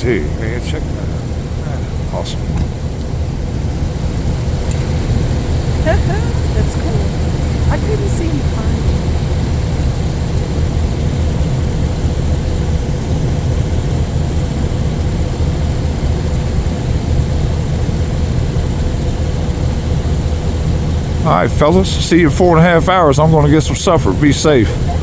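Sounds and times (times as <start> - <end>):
aircraft engines rumbling: 0.0 - 25.0
faint high whine: 0.0 - 25.0.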